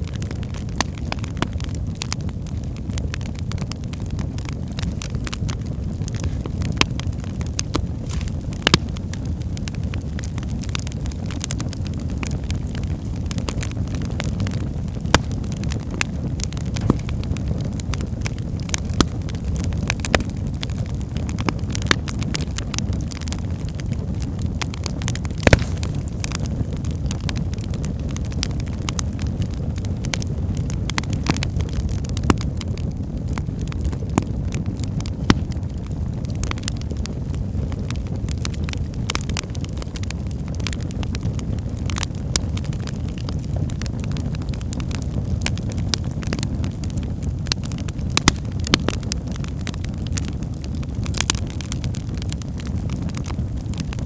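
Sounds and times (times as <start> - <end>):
fire flames rumbling: 0.0 - 54.0
logs crackling and popping: 0.0 - 54.0.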